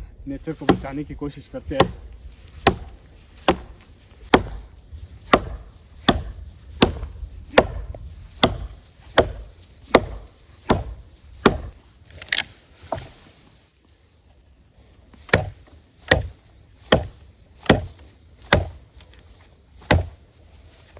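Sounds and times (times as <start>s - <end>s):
chopping wood by hand: 0.6s - 13.2s, 15.2s - 20.2s.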